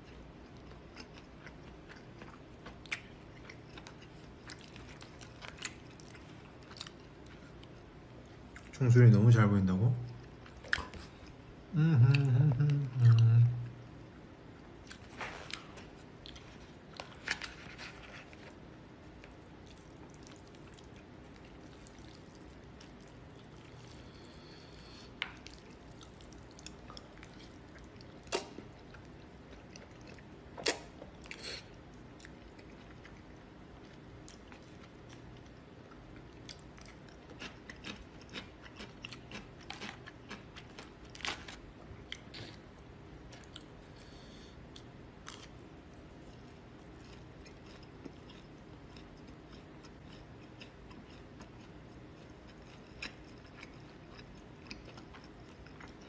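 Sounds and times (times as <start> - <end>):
person chewing: 0.0 - 8.7, 14.8 - 56.0.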